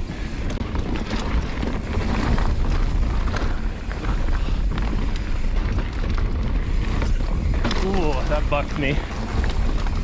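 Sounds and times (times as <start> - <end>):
mountain bike rattling: 0.0 - 10.0
wheels knocking on bumps: 0.0 - 10.0
wind buffeting microphone: 0.0 - 10.0.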